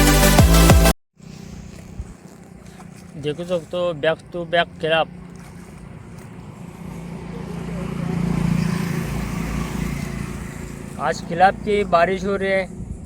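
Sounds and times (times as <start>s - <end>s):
motor vehicle passing: 1.2s - 13.0s.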